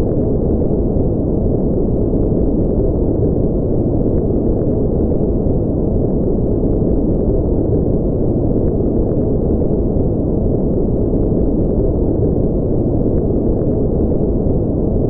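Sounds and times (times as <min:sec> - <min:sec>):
deep muffled brown noise: 0:00.0 - 0:15.0.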